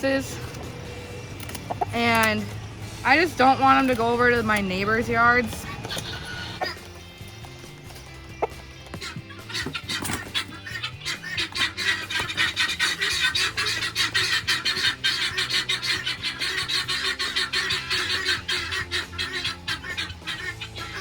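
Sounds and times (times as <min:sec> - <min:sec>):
background music with low notes: 0:00.0 - 0:21.0
poultry calling harshly: 0:00.0 - 0:21.0.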